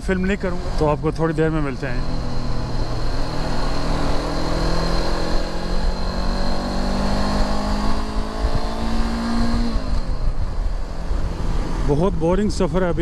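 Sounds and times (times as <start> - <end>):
low wind rumble: 0.0 - 13.0
motorcycle engine accelerating: 0.0 - 13.0.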